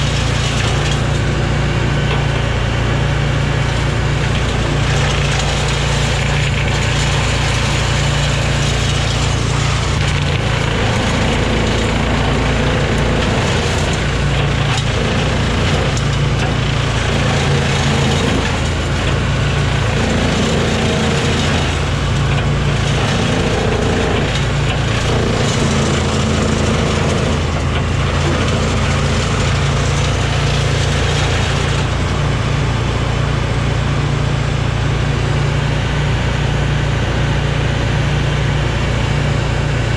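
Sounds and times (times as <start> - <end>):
woodchipper chipping small pines: 0.0 - 39.9.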